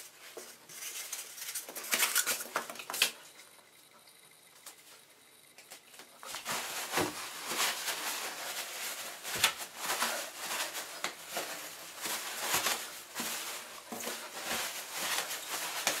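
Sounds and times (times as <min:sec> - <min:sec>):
toilet paper rustling and crumpling: 0:00.0 - 0:03.2, 0:05.9 - 0:16.0.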